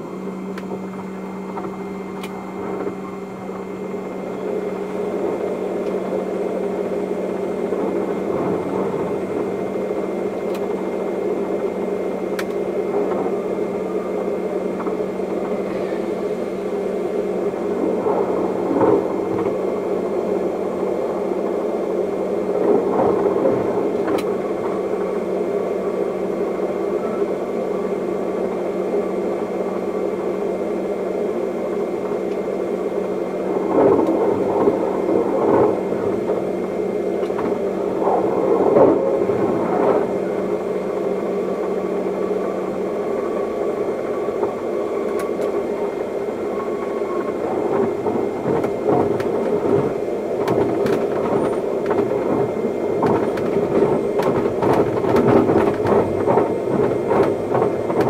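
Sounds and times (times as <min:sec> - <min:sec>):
train cab hum: 0:00.0 - 0:58.0
wheels rumbling on track: 0:00.0 - 0:58.0.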